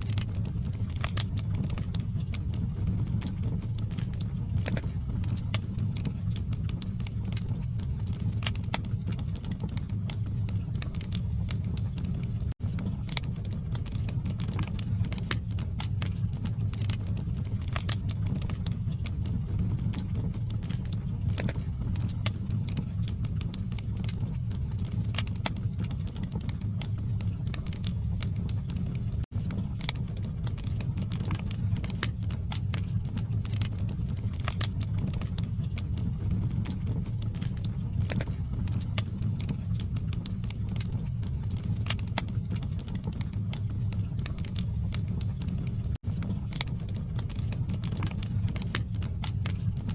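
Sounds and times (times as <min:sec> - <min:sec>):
fire crackling and popping: 0:00.0 - 0:49.9
low rumble of flame: 0:00.0 - 0:49.9.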